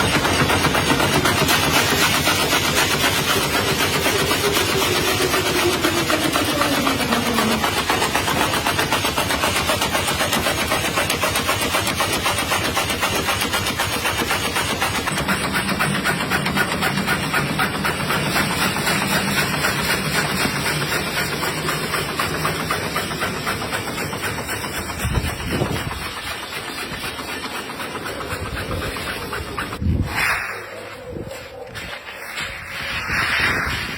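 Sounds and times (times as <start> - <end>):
factory machinery clattering: 0.0 - 29.9.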